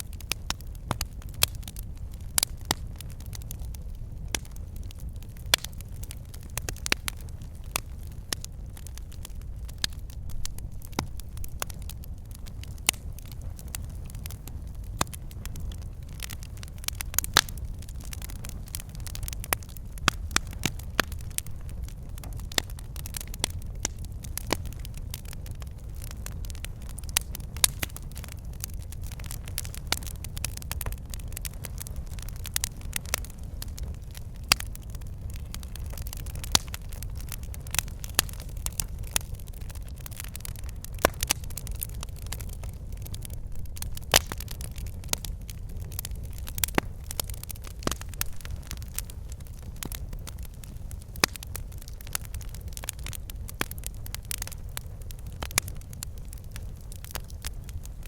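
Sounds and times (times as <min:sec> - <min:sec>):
logs crackling and popping: 0:00.0 - 0:58.0
low rumble of flame: 0:00.0 - 0:58.0.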